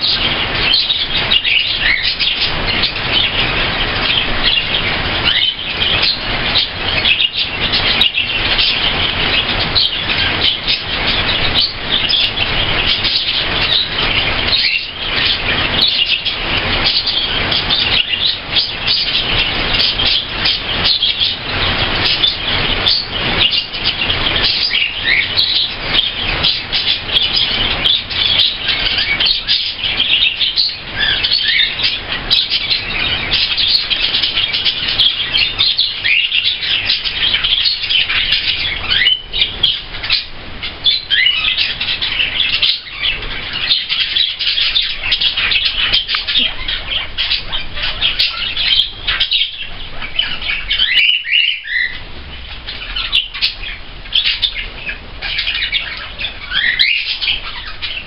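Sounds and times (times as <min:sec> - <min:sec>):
birds chattering and chirping: 0:00.0 - 0:58.0.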